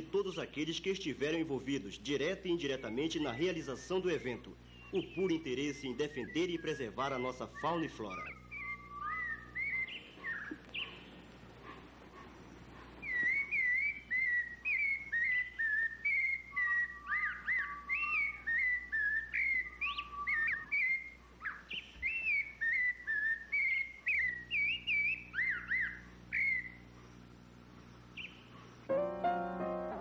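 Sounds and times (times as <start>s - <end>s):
songbird whistling: 2.6s - 26.9s, 28.2s - 30.0s.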